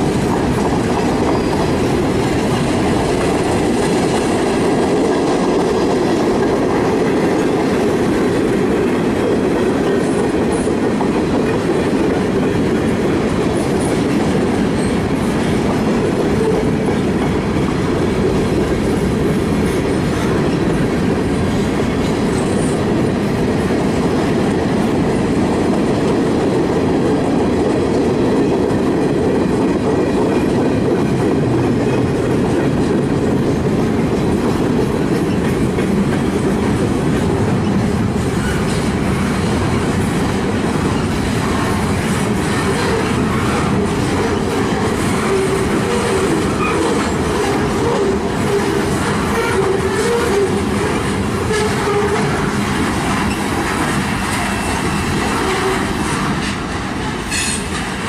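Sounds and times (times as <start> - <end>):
freight cars rolling on rails: 0.0 - 58.0.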